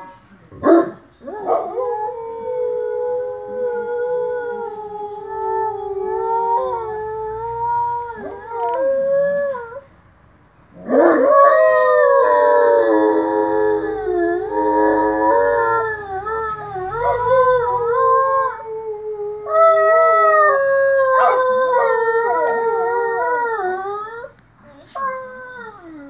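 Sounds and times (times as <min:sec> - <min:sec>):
dogs howling: 0:00.6 - 0:09.9, 0:10.8 - 0:24.3.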